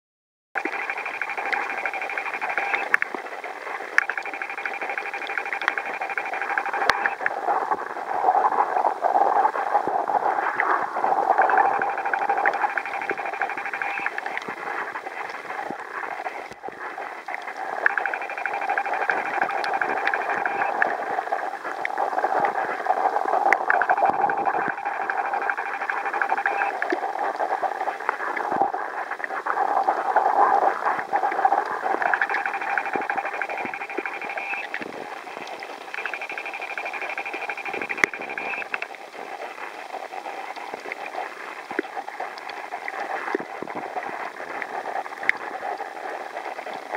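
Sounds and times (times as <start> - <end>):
faint clicks: 0.6 - 7.4, 11.4 - 28.6, 30.8 - 46.9
muffled underwater hiss: 0.6 - 46.9.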